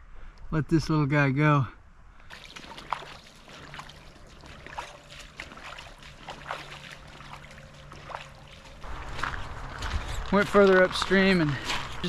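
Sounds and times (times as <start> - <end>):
creek water trickling: 2.2 - 12.0
boots sloshing through water: 2.3 - 12.0.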